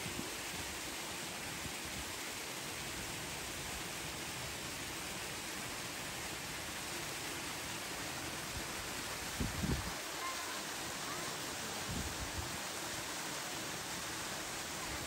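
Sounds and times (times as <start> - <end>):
water rushing in a pool: 0.0 - 15.0.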